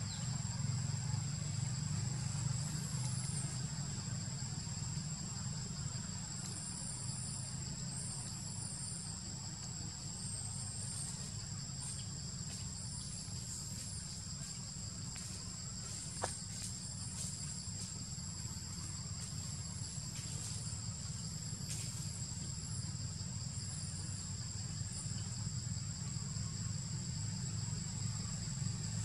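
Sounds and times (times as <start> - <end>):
high-pitched insect drone: 0.0 - 29.0
low steady rumble: 0.0 - 29.0.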